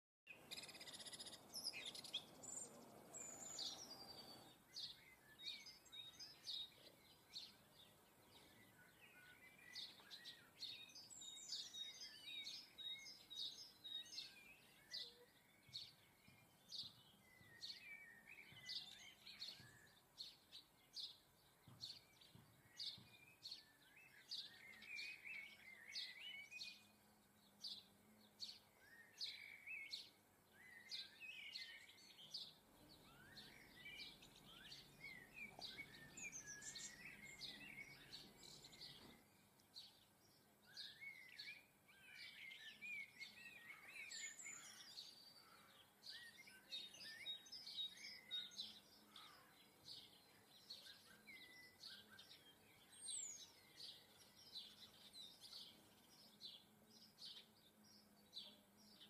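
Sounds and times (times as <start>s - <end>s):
small birds chirping and twittering: 0.2s - 59.0s.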